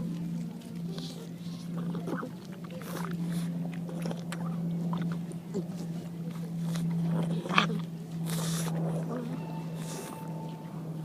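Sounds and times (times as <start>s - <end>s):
dog chewing with smacking clicks: 0.0s - 10.9s
steady low hum: 0.0s - 11.0s.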